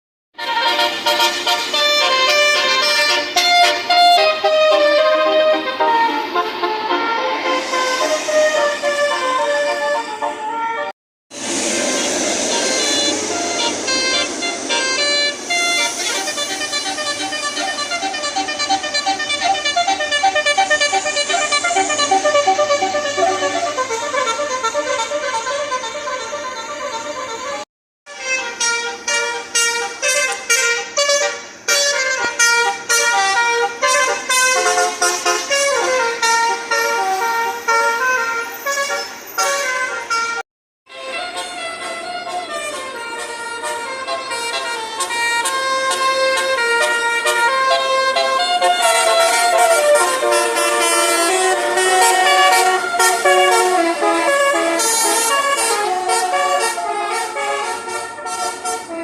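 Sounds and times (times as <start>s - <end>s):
multi-trumpet vehicle horn tune: 0.4s - 59.0s.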